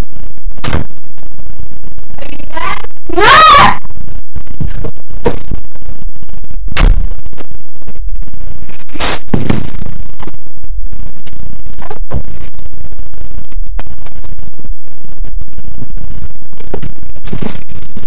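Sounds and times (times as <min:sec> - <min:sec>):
heavily distorted crackling noise: 0:00.0 - 0:18.0.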